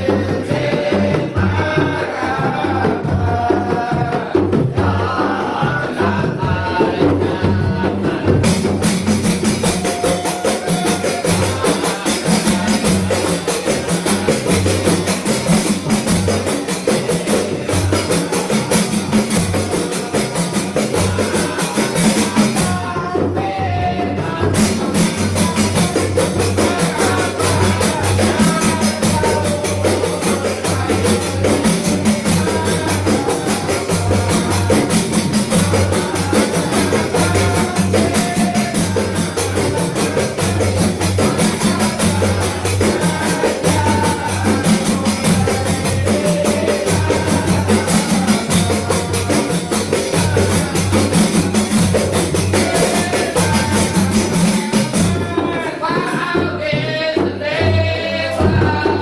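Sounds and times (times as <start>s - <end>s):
frame drums playing: 0.0s - 59.0s
voices chanting: 0.0s - 59.0s.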